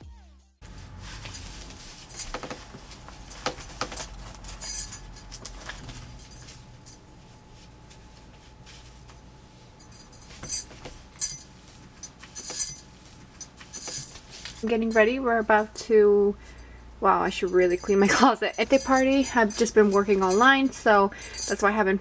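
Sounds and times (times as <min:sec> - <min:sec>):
low room hum: 0:00.6 - 0:22.0.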